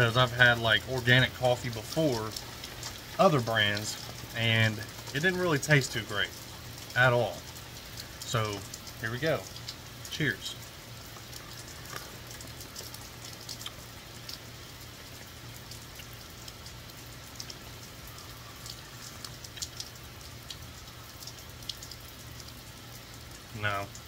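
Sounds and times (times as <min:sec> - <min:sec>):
drops and drips close by: 0:00.0 - 0:24.0
heavy rain: 0:00.0 - 0:24.0.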